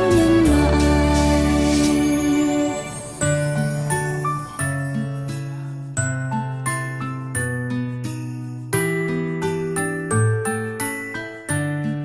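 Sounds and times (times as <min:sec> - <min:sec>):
festive holiday song with sleigh bells: 0:00.0 - 0:12.0.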